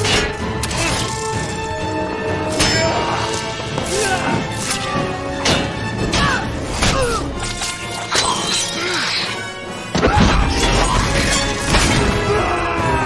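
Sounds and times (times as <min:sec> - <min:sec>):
orchestral action music: 0:00.0 - 0:13.0.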